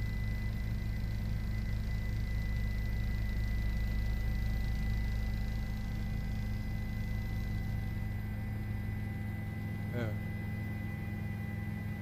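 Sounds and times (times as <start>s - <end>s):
high whine: 0.0s - 12.0s
steady low hum: 0.0s - 12.0s.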